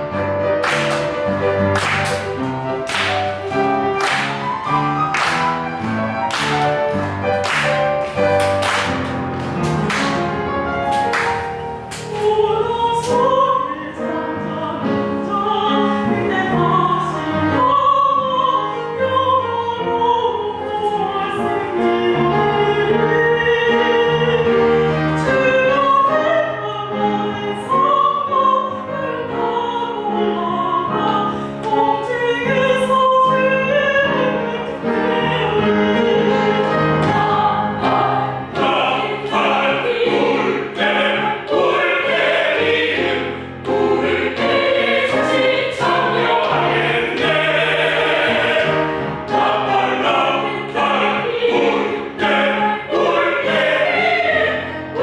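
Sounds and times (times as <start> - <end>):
choir singing: 0.0 - 55.0
instrumental accompaniment: 0.0 - 55.0.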